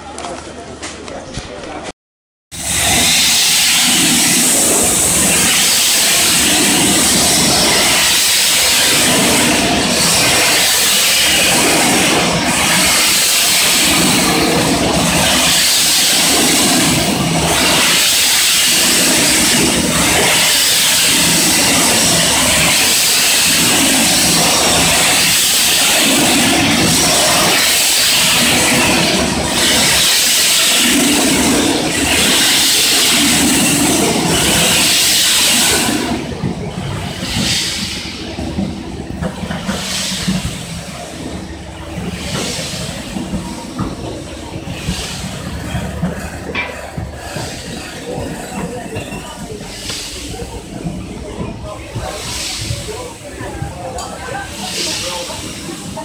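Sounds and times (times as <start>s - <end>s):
steam engine clattering: 2.6s - 56.0s
steam hissing: 2.6s - 56.0s.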